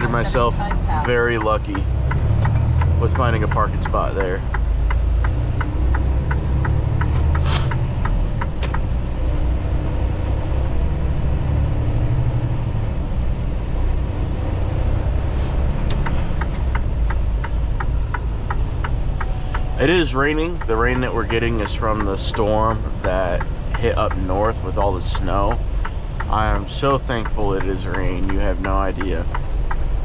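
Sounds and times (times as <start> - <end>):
diesel engine rumbling: 0.0 - 30.0
turn signal ticking: 0.0 - 30.0.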